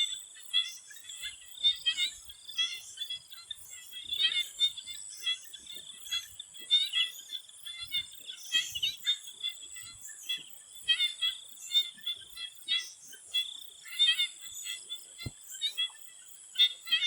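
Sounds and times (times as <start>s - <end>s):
frog chorus: 0.0s - 17.0s.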